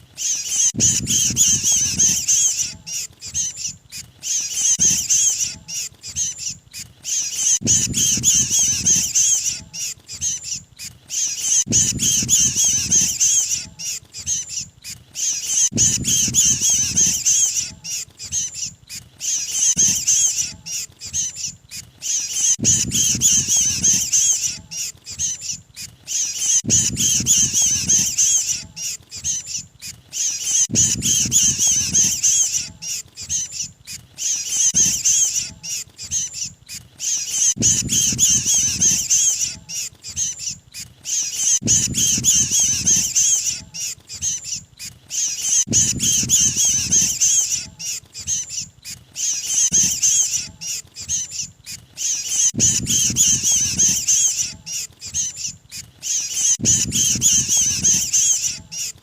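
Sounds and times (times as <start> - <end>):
bird distress calls chattering: 0.0 - 59.0.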